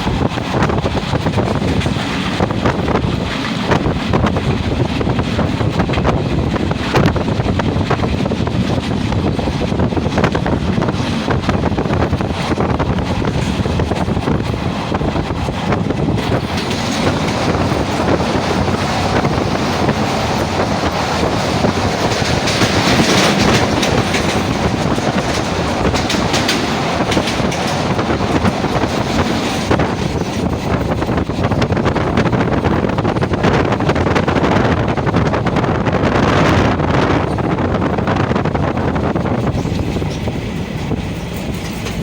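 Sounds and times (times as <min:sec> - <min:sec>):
wheels clicking over rails: 0:00.0 - 0:35.7, 0:36.4 - 0:42.0
train rumbling: 0:00.0 - 0:42.0.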